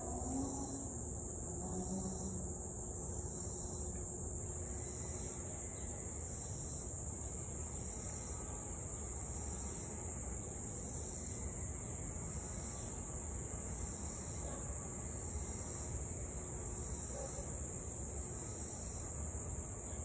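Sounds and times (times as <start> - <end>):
insects chorus: 0.0 - 20.0.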